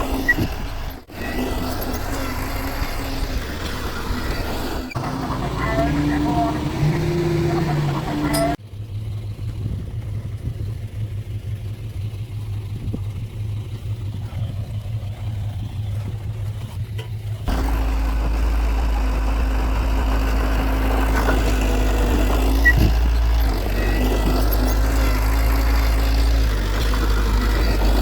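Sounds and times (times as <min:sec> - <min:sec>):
deep engine drone: 0:00.0 - 0:28.0
heavy diesel machinery running: 0:00.0 - 0:28.0.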